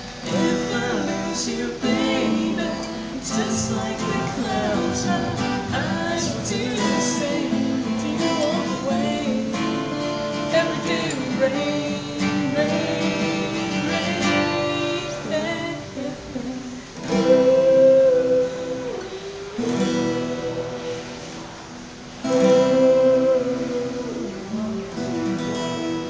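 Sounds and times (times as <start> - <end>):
person singing: 0.0 - 26.0
strummed acoustic guitar: 0.0 - 26.0.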